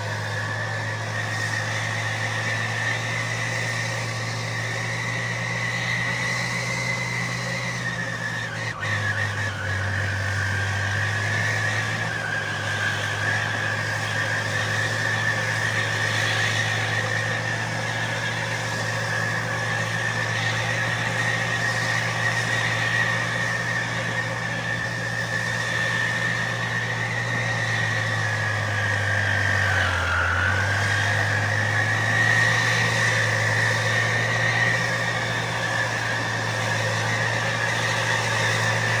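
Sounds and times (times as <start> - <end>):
tractor diesel engine labouring: 0.0 - 39.0.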